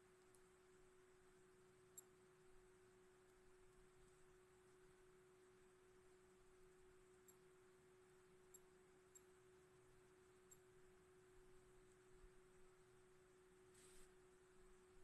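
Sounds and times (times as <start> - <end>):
faint steady low hum: 0.0 - 15.0.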